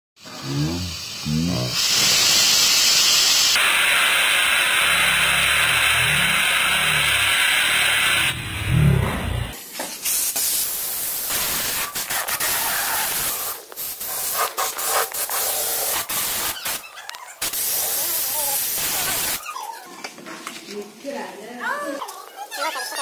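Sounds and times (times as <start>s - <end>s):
spray gun hissing: 0.3s - 16.8s, 17.4s - 19.4s.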